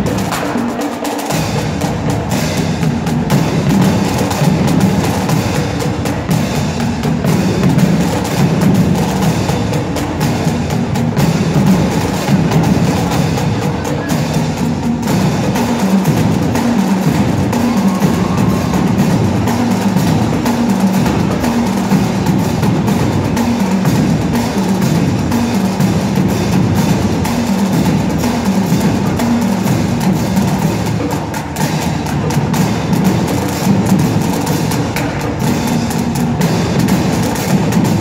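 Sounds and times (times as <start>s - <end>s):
snare and bass drums beating: 0.0s - 38.0s.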